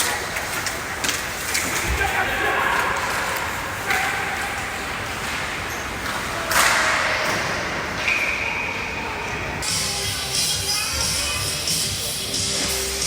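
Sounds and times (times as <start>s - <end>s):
hockey rink game sounds: 0.0s - 13.0s.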